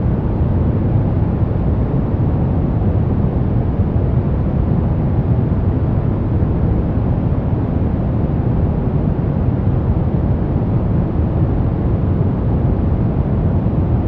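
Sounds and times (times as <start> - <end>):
deep white noise: 0.0 - 14.0.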